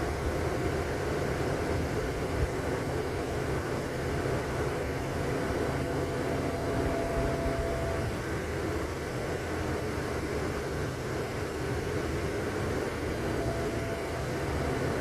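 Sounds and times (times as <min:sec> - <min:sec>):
faint whine: 0:00.0 - 0:15.0
moving vehicle rumble: 0:00.0 - 0:15.0.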